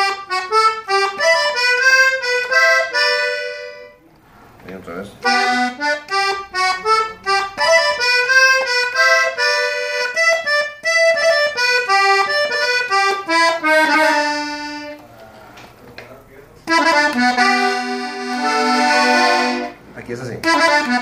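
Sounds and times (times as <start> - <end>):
button accordion melody: 0.0 - 4.0, 5.2 - 15.0, 16.6 - 21.0.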